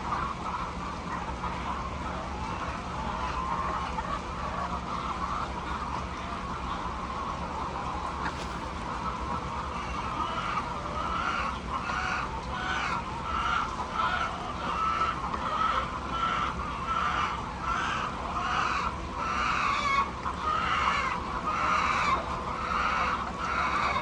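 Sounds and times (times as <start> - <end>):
chickens squawking: 0.0 - 24.0
low background hum: 0.0 - 24.0.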